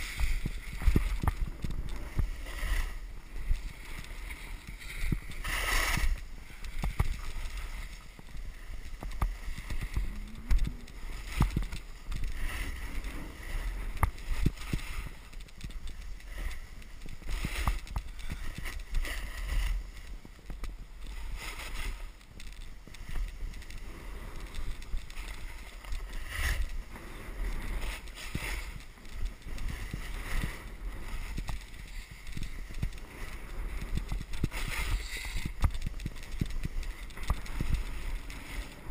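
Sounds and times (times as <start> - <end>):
wind buffeting microphone: 0.0 - 21.2, 22.4 - 38.9
skis scraping on snow: 0.0 - 38.9.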